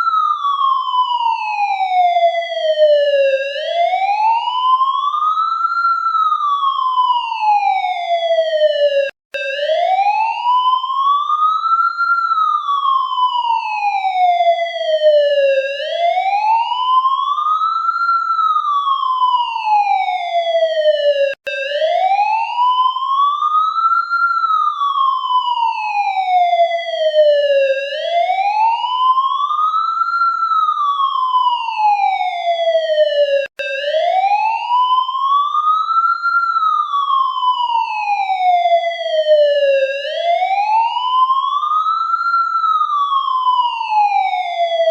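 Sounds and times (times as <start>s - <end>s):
police siren wailing: 0.0s - 44.9s.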